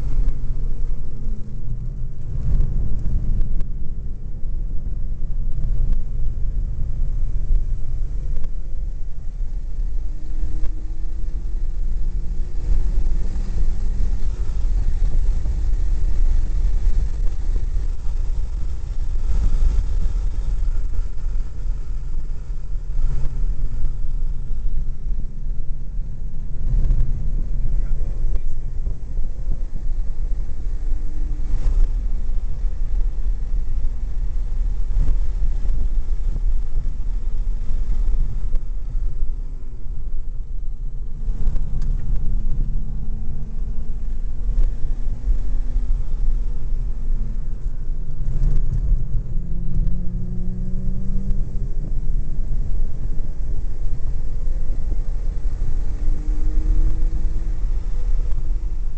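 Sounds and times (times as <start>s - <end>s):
car engine running: 0.0s - 58.9s
wind buffeting microphone: 0.0s - 58.9s.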